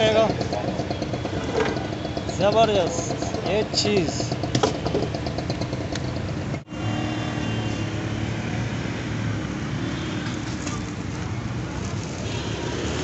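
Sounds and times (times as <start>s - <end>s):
vehicle engines and passing traffic: 0.0s - 13.0s.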